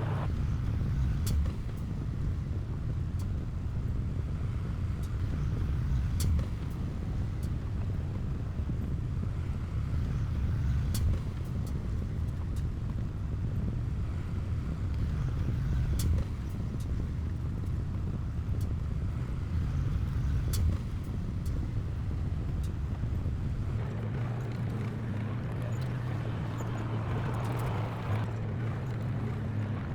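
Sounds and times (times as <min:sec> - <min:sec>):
diesel engine low rumble: 0:00.0 - 0:29.9.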